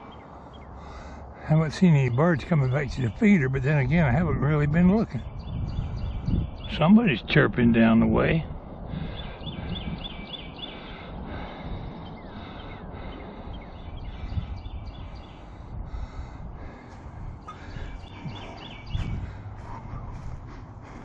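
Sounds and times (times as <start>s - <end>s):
low rumbling background noise: 0.0s - 21.0s
songbird singing: 0.0s - 21.0s.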